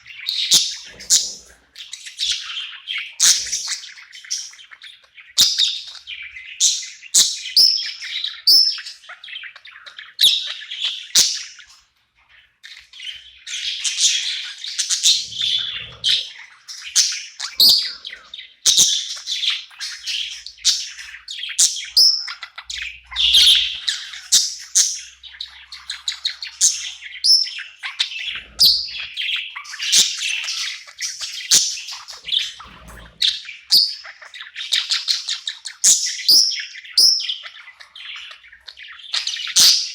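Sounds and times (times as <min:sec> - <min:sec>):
budgerigar chirping: 0:00.0 - 0:39.9.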